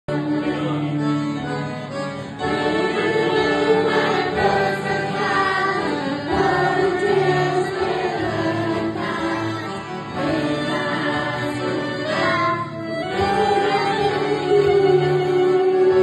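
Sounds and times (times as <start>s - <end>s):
acoustic guitar: 0.1s - 16.0s
children singing: 2.4s - 16.0s.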